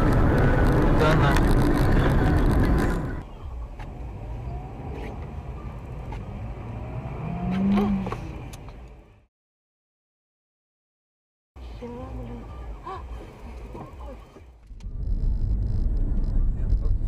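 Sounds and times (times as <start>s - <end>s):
car engine and road rumble: 0.0s - 9.3s, 11.6s - 17.0s.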